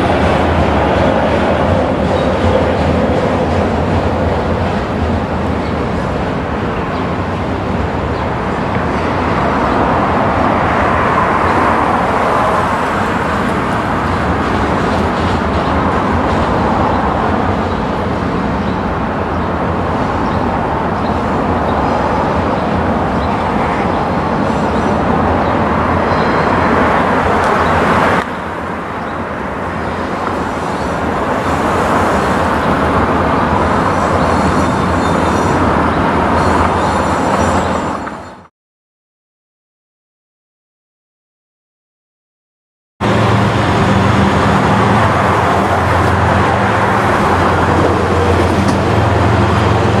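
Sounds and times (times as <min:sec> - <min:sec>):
freight train rumbling on rails: 0:00.0 - 0:38.5, 0:43.0 - 0:50.0.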